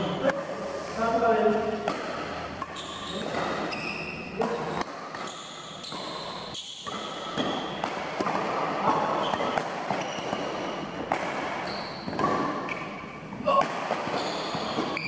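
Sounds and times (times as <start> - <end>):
shoes squeaking: 1.4 - 15.0
racket hitting shuttlecock: 1.5 - 15.0.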